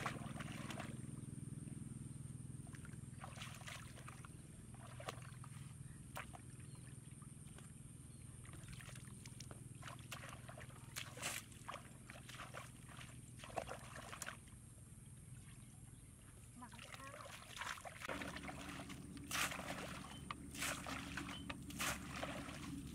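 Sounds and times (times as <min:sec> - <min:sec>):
muddy water splashing: 0:00.0 - 0:01.8, 0:02.5 - 0:22.9
steady low hum: 0:00.0 - 0:22.9.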